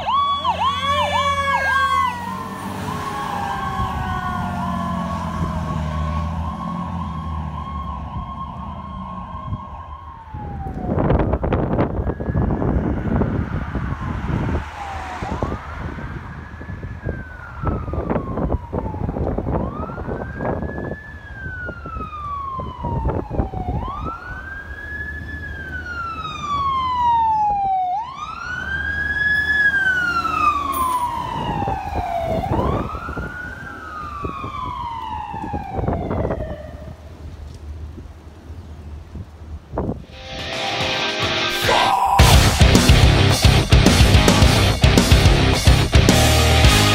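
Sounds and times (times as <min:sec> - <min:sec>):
higher siren: 0:00.0 - 0:37.1, 0:40.1 - 0:46.9
fire engine siren wailing: 0:00.0 - 0:37.4, 0:40.1 - 0:46.9
vehicle engine and tyre noise: 0:00.0 - 0:41.1, 0:41.7 - 0:46.9.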